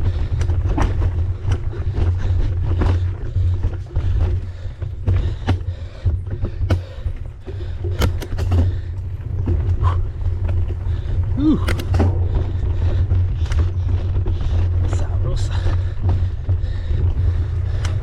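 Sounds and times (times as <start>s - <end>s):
bike knocking and rattling: 0.0s - 18.0s
wind and tyre rolling rumble: 0.0s - 18.0s.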